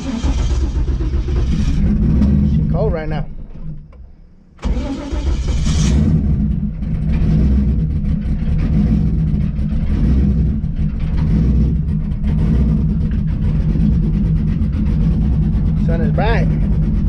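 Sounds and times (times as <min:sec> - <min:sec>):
race car engine starting and idling: 0:00.0 - 0:17.0.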